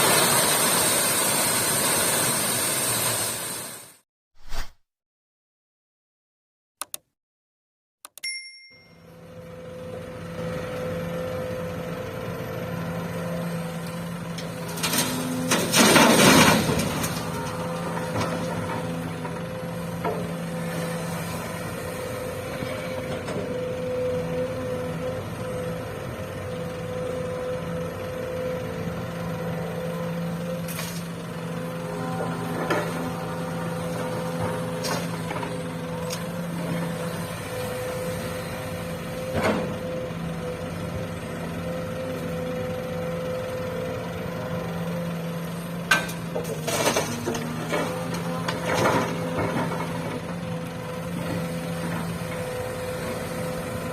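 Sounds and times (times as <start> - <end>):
excavator diesel engine droning: 0.0 - 3.9, 8.8 - 53.9.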